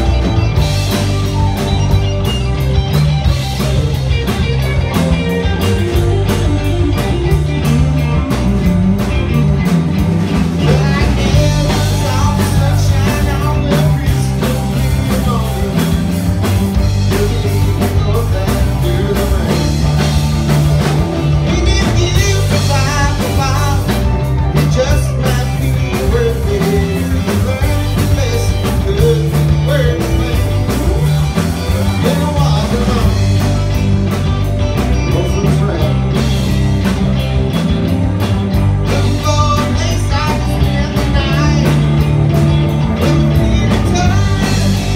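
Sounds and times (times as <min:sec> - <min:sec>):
blues-rock band playing: 0:00.0 - 0:44.9.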